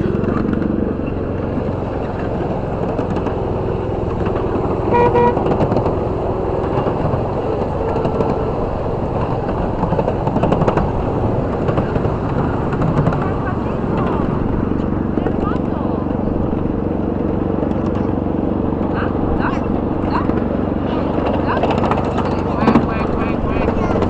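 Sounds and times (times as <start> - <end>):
locomotive toot: 0.0 - 15.0, 19.0 - 24.0
miniature train rumbling on track: 0.0 - 24.0.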